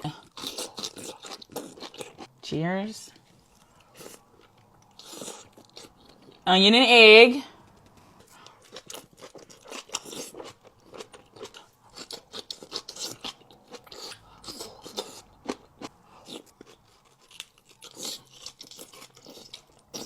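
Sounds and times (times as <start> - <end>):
person chewing crunchy food: 0.0 - 2.4, 3.4 - 6.4, 8.2 - 20.0.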